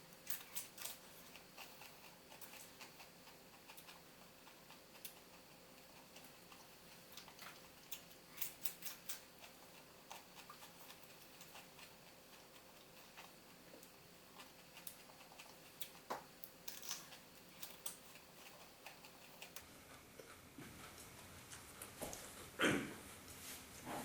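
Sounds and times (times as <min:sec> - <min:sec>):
person chewing cucumber crunching: 0:00.0 - 0:21.7.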